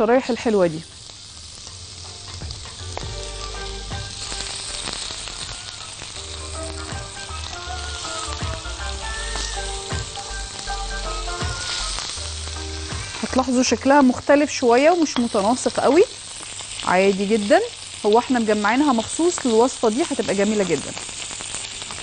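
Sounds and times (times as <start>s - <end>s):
meat sizzling in butter: 0.0s - 22.0s.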